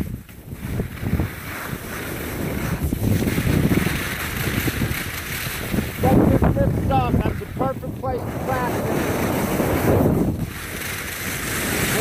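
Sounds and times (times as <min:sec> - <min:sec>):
skis hissing on snow: 0:00.0 - 0:12.0
wind rushing over microphone: 0:00.0 - 0:12.0.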